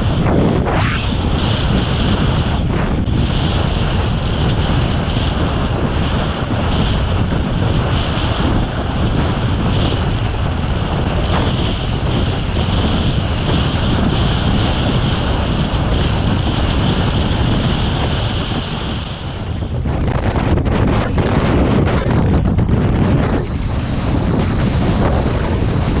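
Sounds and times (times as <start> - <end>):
water rushing around boat: 0.0 - 26.0
wind buffeting microphone: 0.0 - 26.0.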